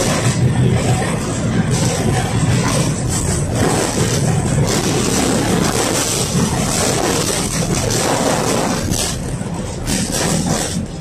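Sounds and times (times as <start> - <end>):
tram wheels on rails: 0.0 - 11.0.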